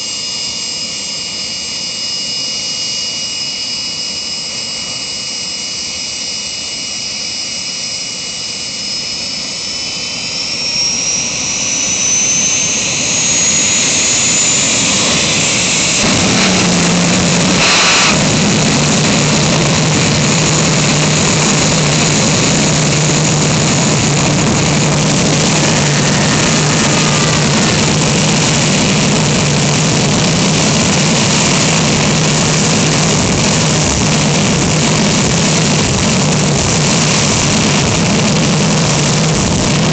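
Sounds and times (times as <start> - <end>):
jet engine whine and roar: 0.0 - 39.9.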